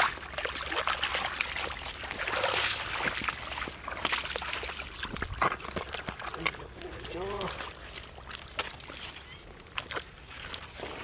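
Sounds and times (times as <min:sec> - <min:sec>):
feet splashing through muddy water: 0:00.0 - 0:11.0.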